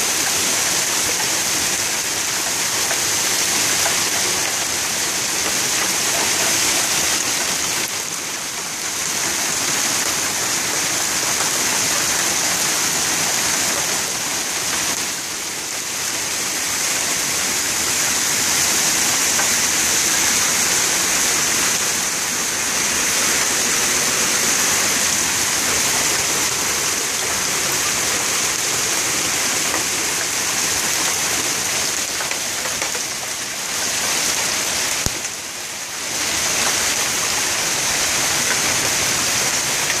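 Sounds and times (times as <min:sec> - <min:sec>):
heavy hail and rain pelting: 0:00.0 - 0:40.0.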